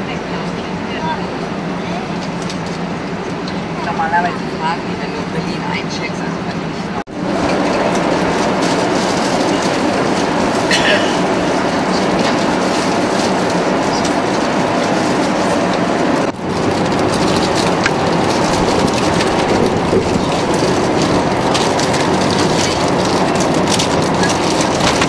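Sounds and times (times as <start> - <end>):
airplane cabin noise: 0.0 - 25.0.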